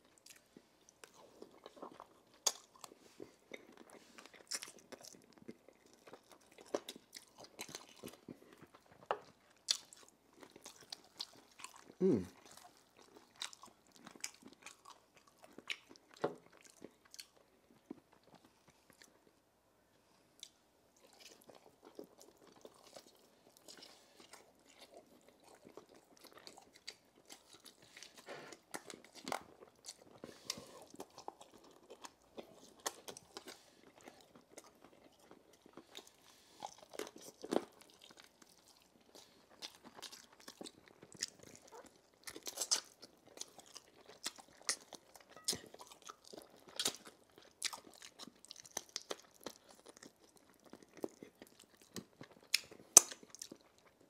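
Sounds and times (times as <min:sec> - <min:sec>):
chewing and crunching bone: 0:00.0 - 0:19.4, 0:20.4 - 0:54.0.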